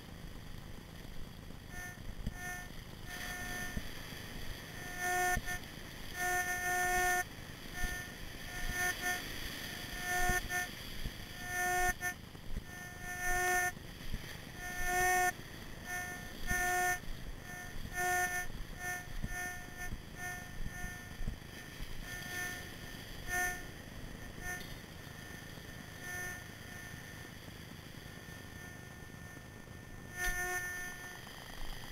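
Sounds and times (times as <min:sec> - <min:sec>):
low steady rumble: 0:00.0 - 0:31.9
metal detector beeps: 0:01.7 - 0:03.8, 0:04.7 - 0:13.8, 0:14.5 - 0:27.3, 0:28.2 - 0:31.3.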